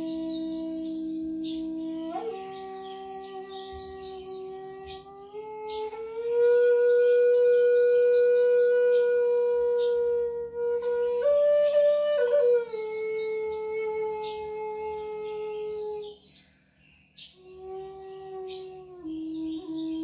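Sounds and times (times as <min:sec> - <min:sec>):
flute long notes: 0:00.0 - 0:16.4, 0:17.3 - 0:20.0
birds chirping: 0:00.0 - 0:20.0.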